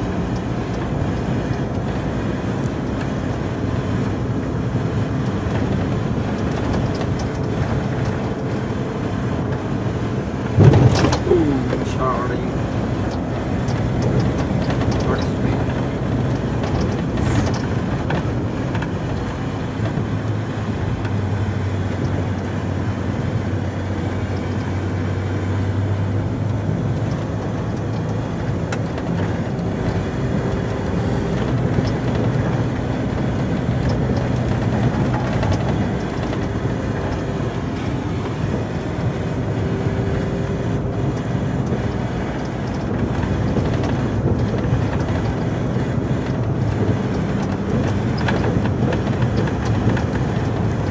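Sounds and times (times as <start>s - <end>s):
diesel truck engine running: 0.0s - 50.9s
road and plow noise: 0.0s - 50.9s.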